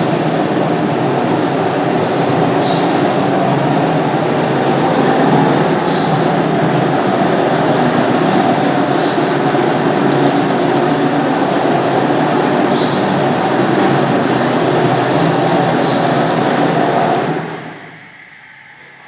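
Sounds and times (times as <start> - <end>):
floor polishing machine running: 0.0 - 19.0.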